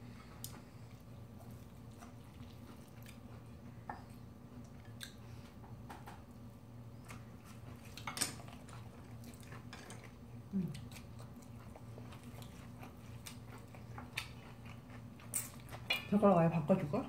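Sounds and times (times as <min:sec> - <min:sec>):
low steady hum: 0:00.0 - 0:17.0
people chewing: 0:00.1 - 0:05.8, 0:06.9 - 0:16.4.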